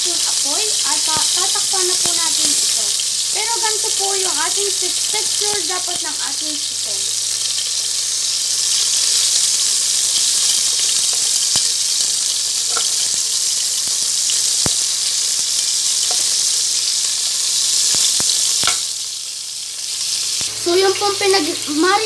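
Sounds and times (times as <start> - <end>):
chicken wings sizzling in oil: 0.0 - 22.0.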